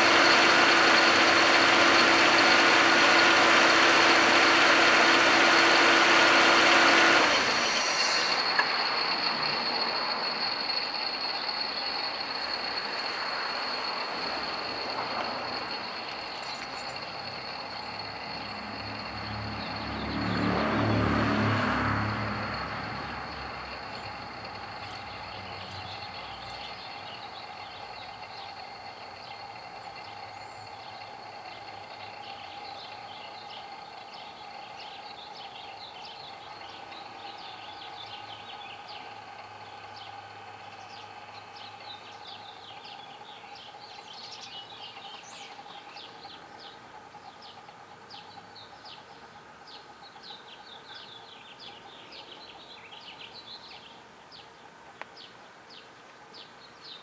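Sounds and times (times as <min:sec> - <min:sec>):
birds chirping: 0:00.0 - 0:20.9, 0:22.5 - 0:57.0
turbo wheel whirring: 0:00.0 - 0:53.4.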